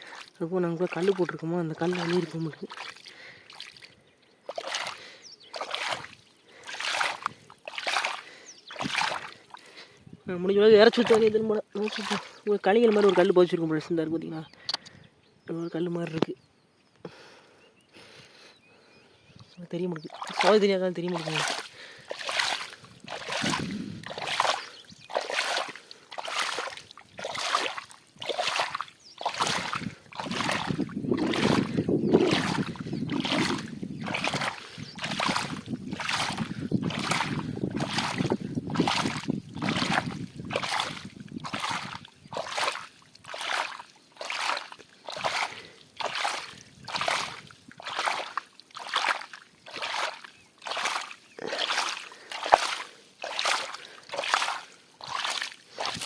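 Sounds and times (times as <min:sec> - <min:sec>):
water scooping and splashing: 0:00.0 - 0:10.0, 0:10.8 - 0:13.6, 0:20.0 - 0:56.0.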